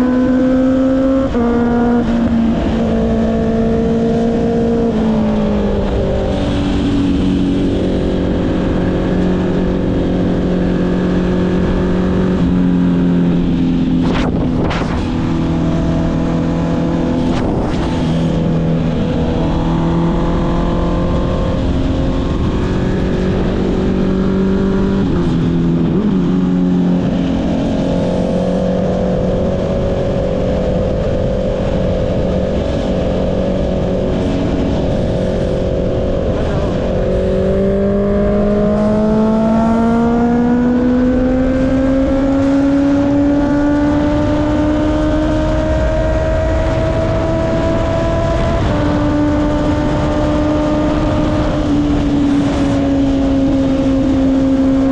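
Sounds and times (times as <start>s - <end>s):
wind rush on microphone: 0.0s - 54.9s.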